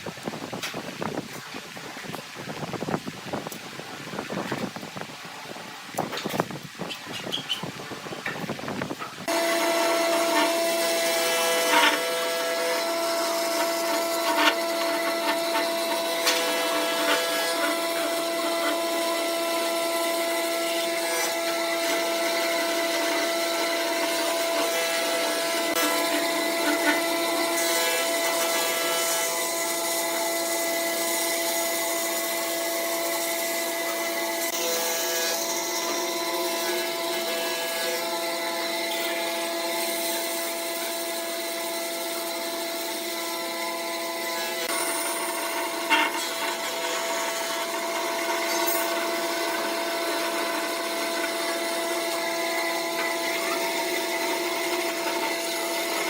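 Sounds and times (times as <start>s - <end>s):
tool scraping spinning wood: 6.0s - 56.0s
lathe motor whine: 9.2s - 56.0s.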